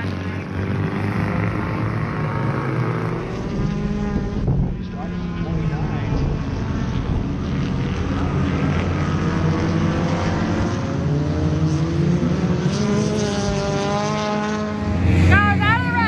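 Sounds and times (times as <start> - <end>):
engine pitch climbing: 0.0 - 16.0
race car engines droning: 0.0 - 16.0.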